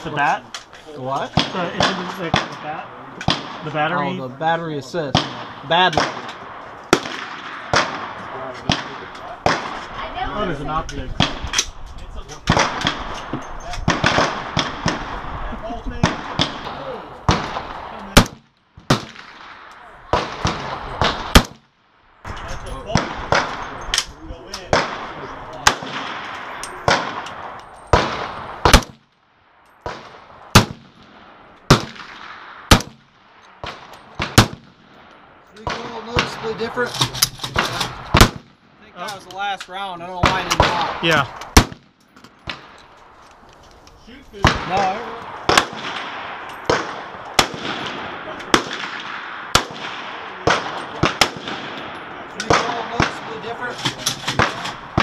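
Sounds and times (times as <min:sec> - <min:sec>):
rifle shots echoing: 0:01.3 - 0:11.8, 0:12.4 - 0:15.4, 0:16.0 - 0:39.1, 0:40.0 - 0:43.2, 0:44.4 - 0:55.0.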